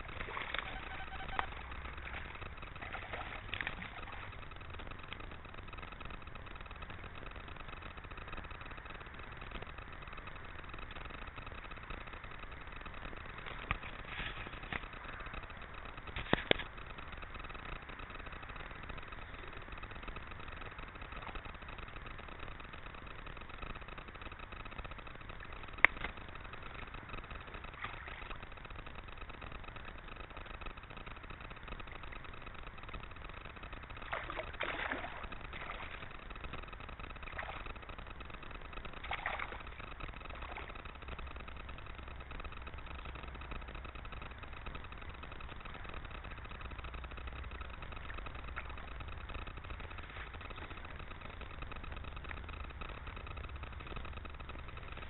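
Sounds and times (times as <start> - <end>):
faint hum and low rumble: 0.0 - 55.0
steady low hiss: 0.0 - 55.0.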